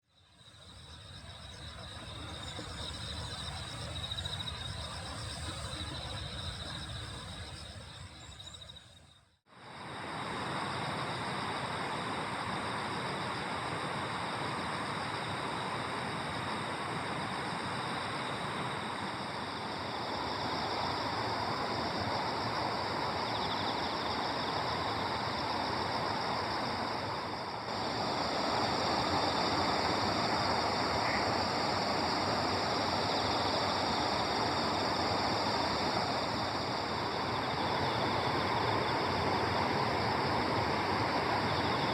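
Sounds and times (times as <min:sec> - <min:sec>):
insects trilling: 0:00.1 - 0:41.9.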